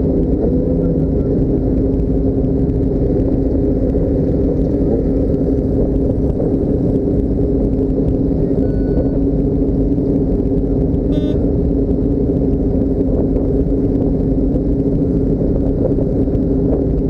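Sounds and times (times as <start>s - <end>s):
road rumble: 0.0s - 17.0s
vehicle engine drone: 0.0s - 17.0s.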